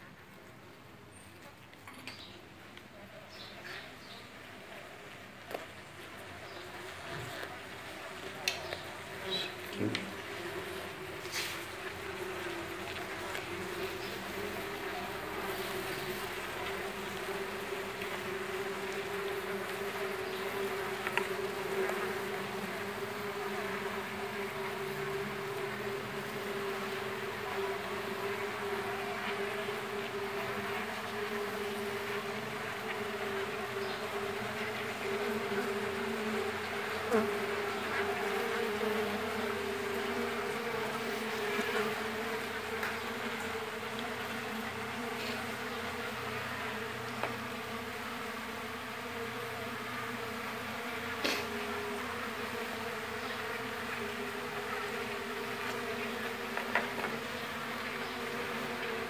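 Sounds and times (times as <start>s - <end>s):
bees buzzing in a hive: 0.0s - 59.0s.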